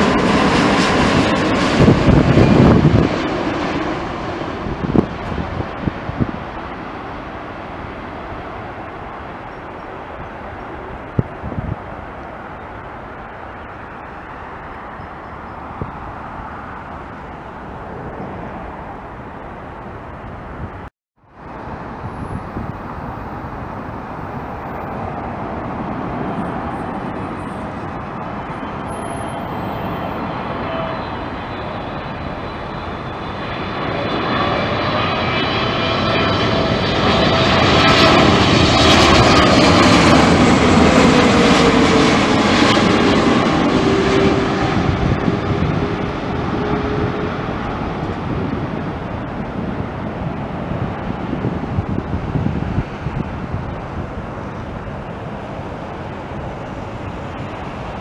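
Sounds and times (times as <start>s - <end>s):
jet airliner roar passing: 0.0s - 58.0s.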